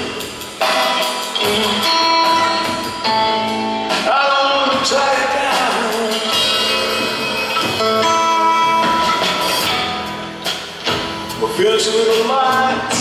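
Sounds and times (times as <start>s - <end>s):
drum cymbals: 0.0s - 4.2s, 4.8s - 13.0s
electric guitar bending notes: 0.0s - 11.4s
upright bass: 0.0s - 13.0s.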